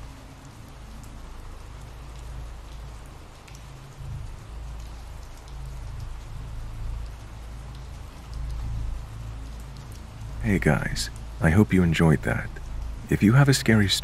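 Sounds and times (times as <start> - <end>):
raindrop ticks: 0.0 - 14.0
steady rainfall: 0.0 - 14.0.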